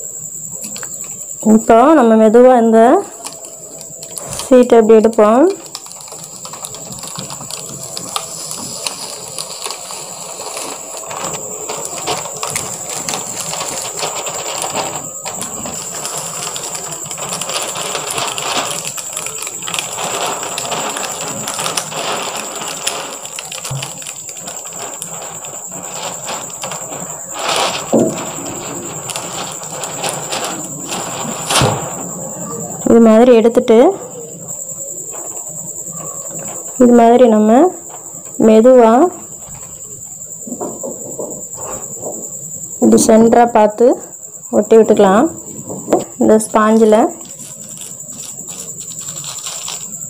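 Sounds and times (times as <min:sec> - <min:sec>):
plastic sheet peeling crackle: 0:00.4 - 0:50.0.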